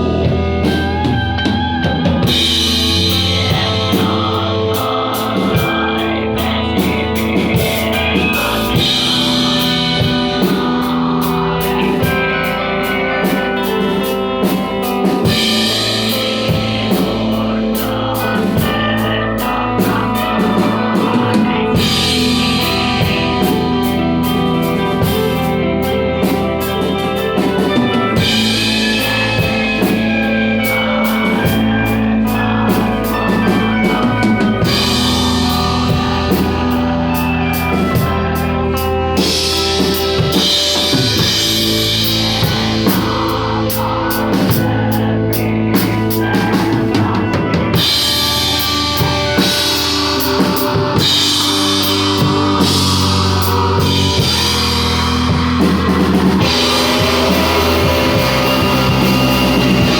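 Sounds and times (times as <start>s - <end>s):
drum kit: 0.0s - 59.9s
guitars: 0.0s - 59.9s.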